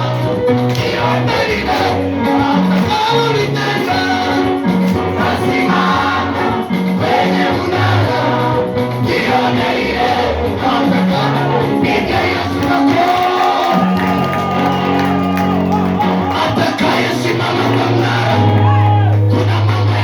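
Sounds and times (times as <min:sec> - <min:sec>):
bass line held notes: 0:00.0 - 0:20.0
gospel singing over a band: 0:00.0 - 0:20.0.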